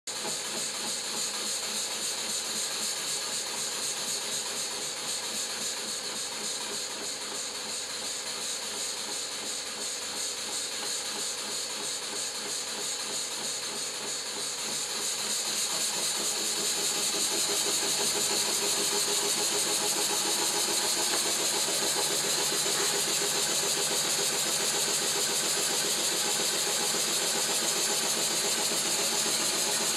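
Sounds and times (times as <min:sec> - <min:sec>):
model steam engine chuffing: 0:00.1 - 0:29.9.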